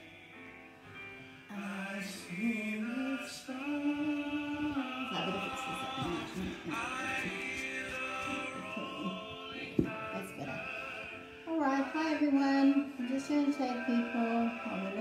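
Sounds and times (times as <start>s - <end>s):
music with singing voice: 0.0s - 15.0s.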